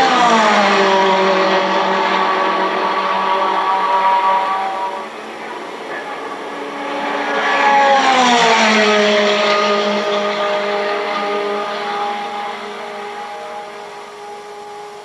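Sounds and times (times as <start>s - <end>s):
race car passing: 0.0s - 15.0s.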